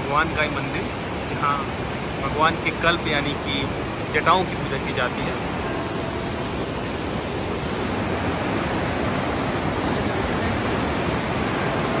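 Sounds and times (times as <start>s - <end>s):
river rushing over boulders: 0.0s - 12.0s.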